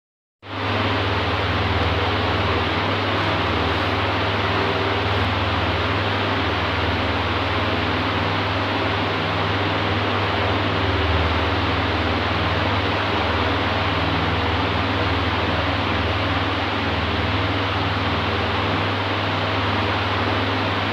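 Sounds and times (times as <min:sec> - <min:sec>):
electric fan air rush: 0:00.4 - 0:20.9
fan motor hum: 0:00.4 - 0:20.9.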